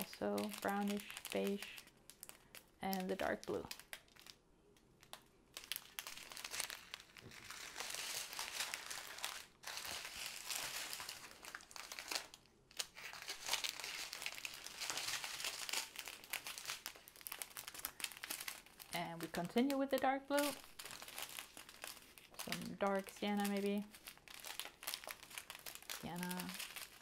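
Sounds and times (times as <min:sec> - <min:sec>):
plastic bags crinkling: 0:00.0 - 0:27.0.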